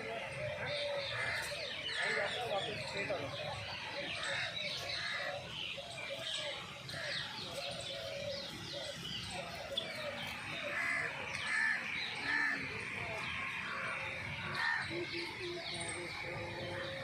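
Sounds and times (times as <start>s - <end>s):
harsh bird calls: 0.0s - 17.0s
many birds chirping: 0.0s - 17.0s.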